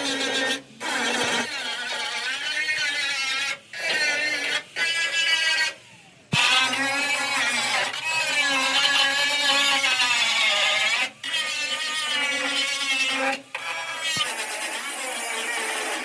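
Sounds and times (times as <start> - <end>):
power tool whining: 0.0 - 16.0.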